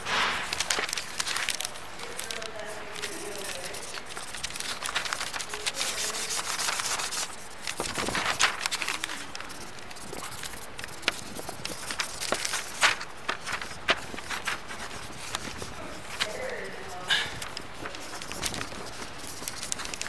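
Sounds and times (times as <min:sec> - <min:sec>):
drawing tool scratching paper: 0:00.0 - 0:20.0.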